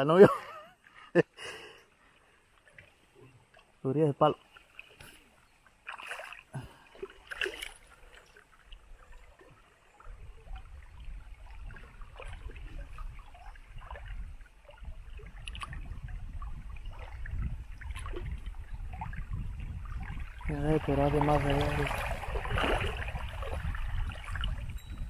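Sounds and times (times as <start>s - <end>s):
water lapping around boat: 1.8s - 25.0s
light knocks and splashes: 4.4s - 24.8s.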